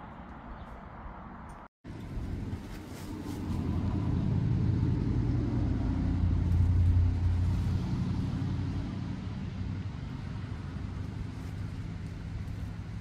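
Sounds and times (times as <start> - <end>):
vehicle engine rumble passing: 0.9 - 13.0.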